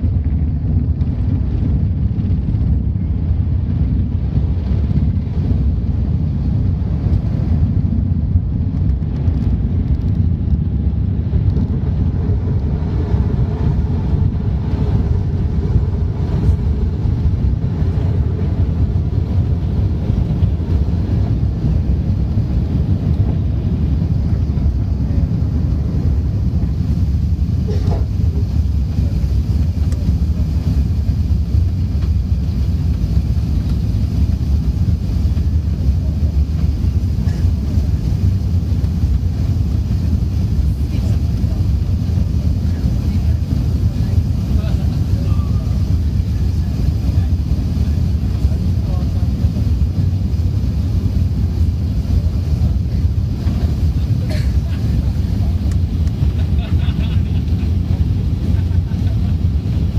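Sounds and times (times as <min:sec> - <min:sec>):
airflow past fuselage: 0:00.0 - 0:59.9
airplane engines rumbling in cabin: 0:00.0 - 0:59.9.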